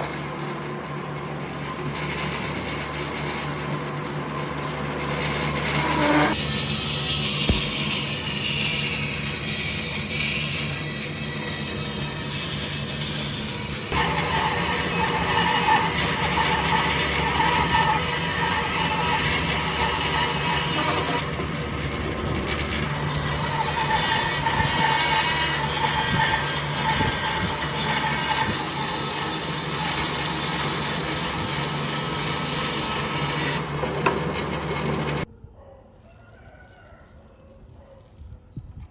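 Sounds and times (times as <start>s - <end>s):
power tool on wood: 0.0s - 35.3s.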